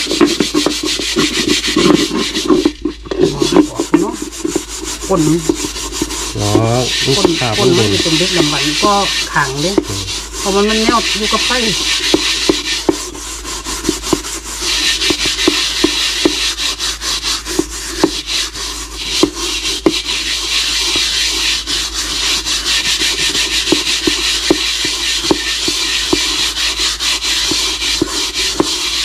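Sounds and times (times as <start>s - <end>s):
scouring pad scrubbing metal pot: 0.0s - 29.0s.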